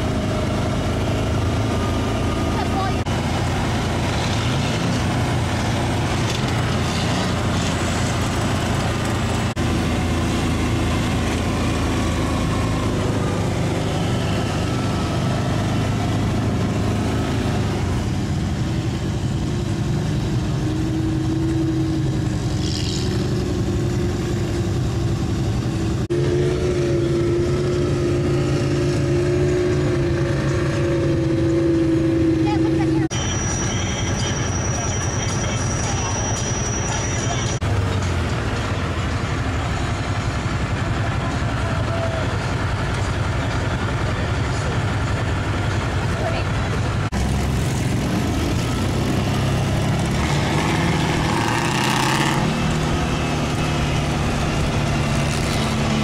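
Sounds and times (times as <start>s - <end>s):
higher engine drone: 0.0s - 56.0s
truck engines rumbling: 0.0s - 56.0s.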